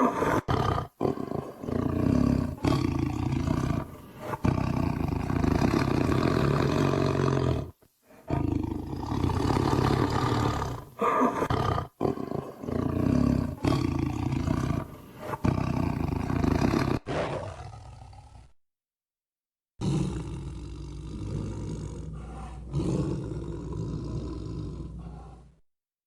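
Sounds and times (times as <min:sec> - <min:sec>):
tiger growling: 0:00.0 - 0:18.5, 0:19.8 - 0:25.6.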